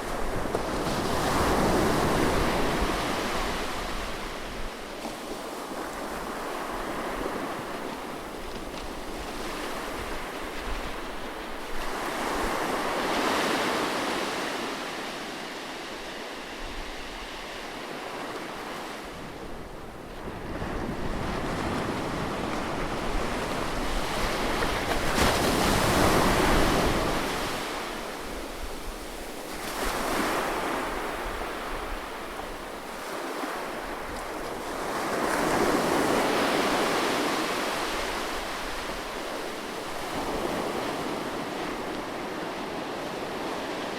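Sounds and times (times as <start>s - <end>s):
ocean waves breaking on beach: 0.0s - 43.9s.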